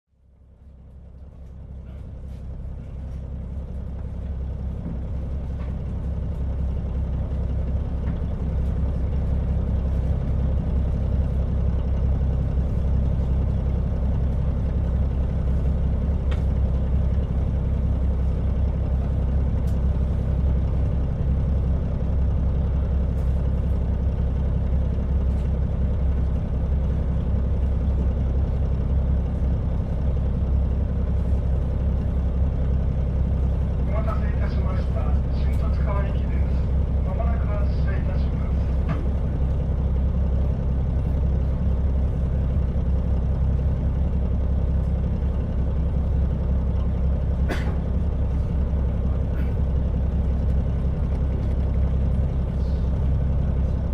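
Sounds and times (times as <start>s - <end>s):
diesel railcar rumbling: 0.1s - 53.9s.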